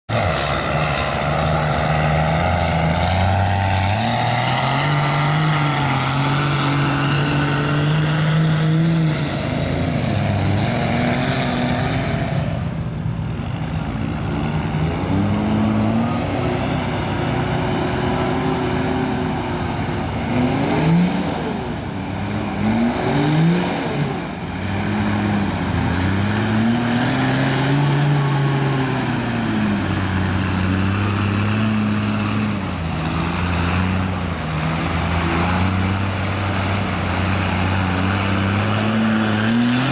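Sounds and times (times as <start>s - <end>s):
mud slinging: 0.1s - 12.8s, 13.8s - 39.9s
diesel truck engine revving: 0.1s - 39.9s.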